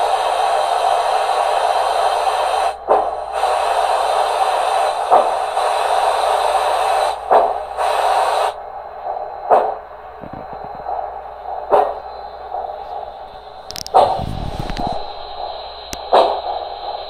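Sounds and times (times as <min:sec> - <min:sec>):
steam hiss: 0:00.0 - 0:09.8, 0:10.4 - 0:17.0
steam exhaust chuffs: 0:00.0 - 0:17.0.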